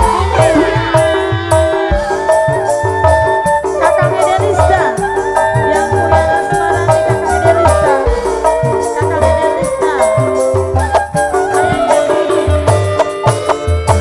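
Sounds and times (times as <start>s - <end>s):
upbeat band music: 0.0s - 14.0s.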